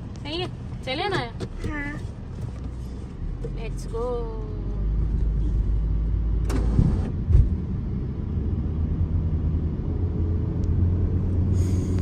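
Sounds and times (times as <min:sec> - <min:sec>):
car engine and tyres rumble: 0:00.0 - 0:12.0.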